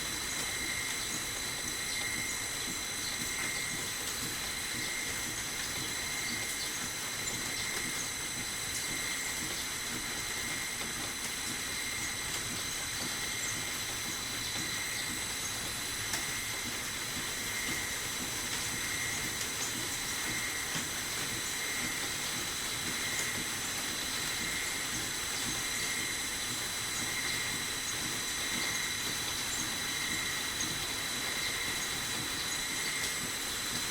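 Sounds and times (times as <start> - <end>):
small lathe whining: 0.0 - 33.9.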